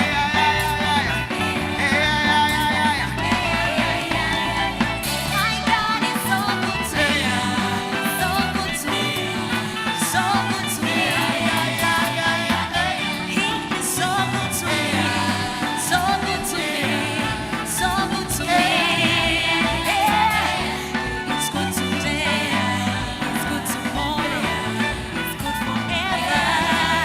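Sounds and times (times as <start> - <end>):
live band with singer: 0.0 - 27.0.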